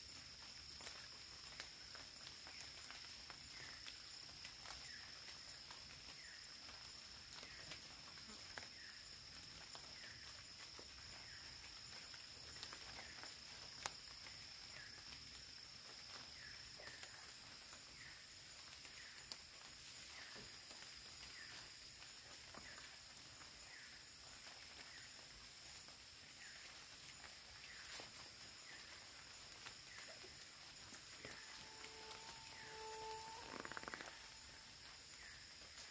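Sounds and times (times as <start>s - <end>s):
insects droning: 0.0s - 35.9s.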